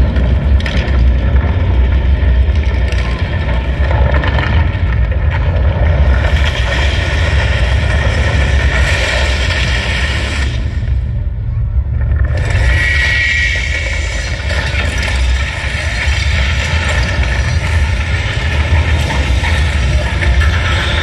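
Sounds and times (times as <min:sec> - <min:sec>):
deep bass rumble: 0:00.0 - 0:21.0.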